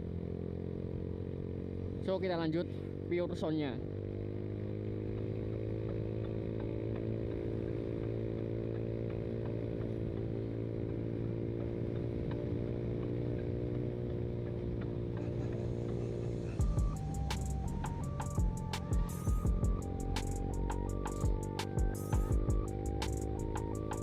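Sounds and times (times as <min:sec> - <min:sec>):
scooter engine running: 0:00.0 - 0:24.0.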